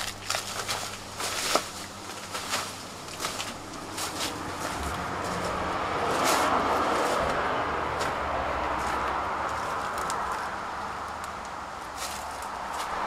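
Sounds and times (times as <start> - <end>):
footsteps on leaf litter: 0.0 - 13.0
rushing noise: 0.9 - 13.0.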